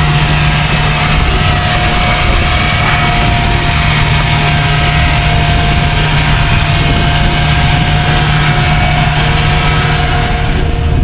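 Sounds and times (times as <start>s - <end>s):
electric paddle mixer whining: 0.0s - 11.0s.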